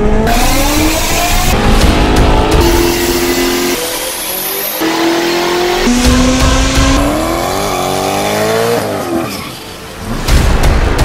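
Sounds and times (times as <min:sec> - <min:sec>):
car engines at high revs: 0:00.0 - 0:09.3.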